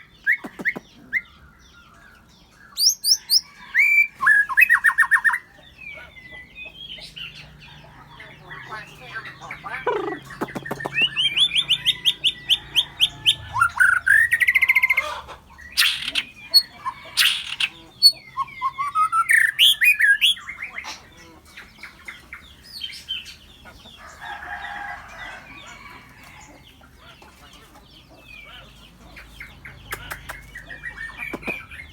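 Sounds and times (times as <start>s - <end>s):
small birds chirping and singing: 0.0s - 31.9s.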